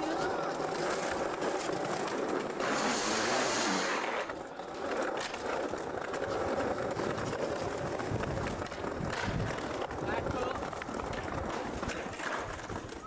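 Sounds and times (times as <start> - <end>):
skateboard clacks: 0.0 - 13.0
skateboard scraping along ledge: 0.0 - 13.0
skateboard wheels rolling on tiles: 0.0 - 13.0.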